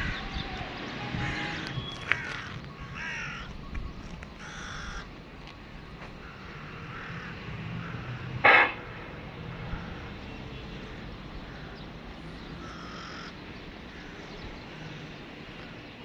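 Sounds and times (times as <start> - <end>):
crows cawing: 0.0 - 0.4, 1.1 - 5.2, 6.0 - 15.7.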